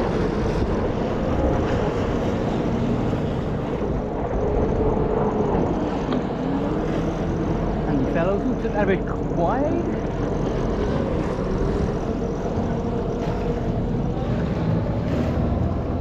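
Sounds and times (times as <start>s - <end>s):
jet ski engines droning: 0.0s - 16.0s
rushing wind and water: 0.0s - 16.0s.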